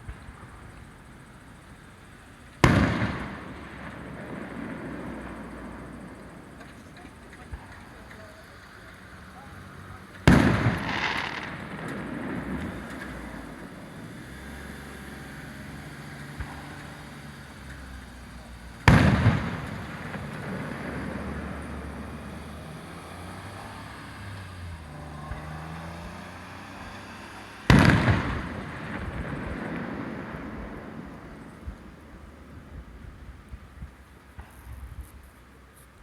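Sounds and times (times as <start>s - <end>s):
firework shells booming with echo: 0.0s - 35.9s.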